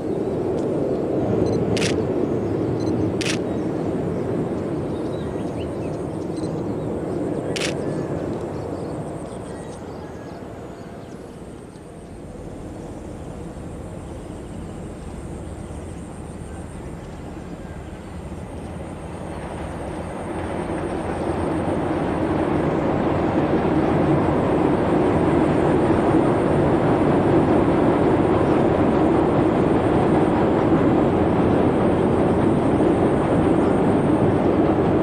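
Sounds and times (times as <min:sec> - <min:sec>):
passenger train rumbling: 0:00.0 - 0:35.0.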